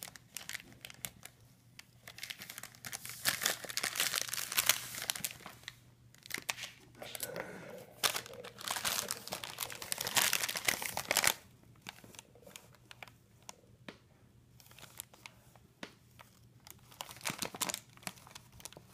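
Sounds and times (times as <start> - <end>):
paper snack bag crinkling: 0.0 - 13.6, 14.6 - 15.4, 16.1 - 18.9.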